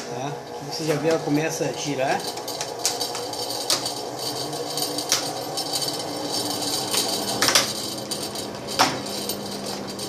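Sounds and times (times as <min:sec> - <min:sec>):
washing machine spinning: 0:00.0 - 0:10.0.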